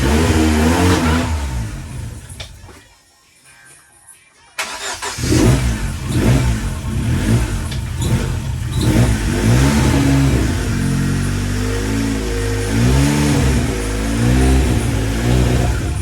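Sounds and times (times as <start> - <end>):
car engine starting and revving: 0.0 - 2.6, 4.6 - 16.0.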